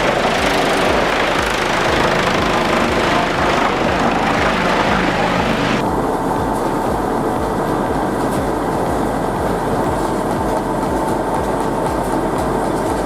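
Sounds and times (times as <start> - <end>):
wood chipper running: 0.0 - 12.8.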